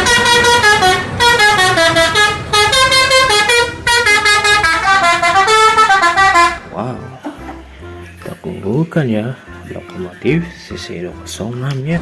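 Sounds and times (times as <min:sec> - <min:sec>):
multi-tone bus horn melody: 0:00.0 - 0:08.3, 0:09.2 - 0:11.4.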